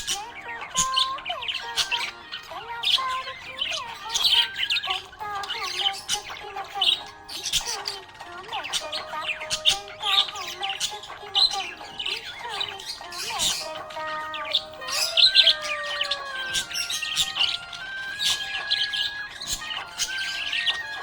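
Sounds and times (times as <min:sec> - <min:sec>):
budgerigars chirping and chattering: 0:00.0 - 0:21.0.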